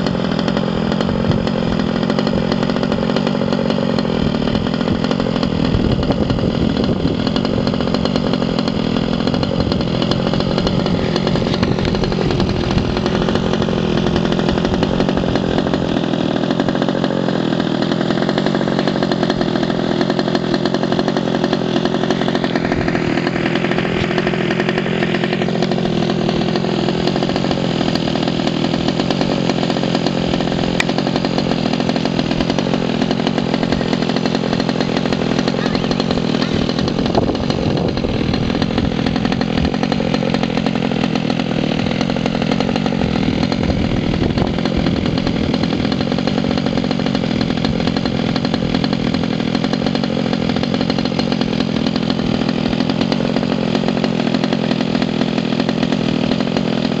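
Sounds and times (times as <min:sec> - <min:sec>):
small two-stroke engine buzzing: 0:00.0 - 0:57.0.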